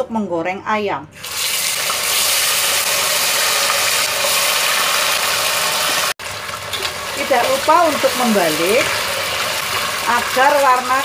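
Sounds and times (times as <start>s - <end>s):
chicken sizzling in hot oil: 1.2s - 11.0s.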